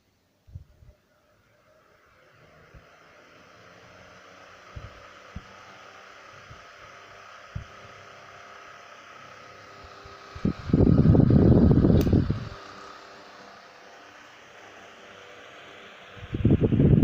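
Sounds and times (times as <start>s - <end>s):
desk fan motor humming: 0.0s - 17.0s.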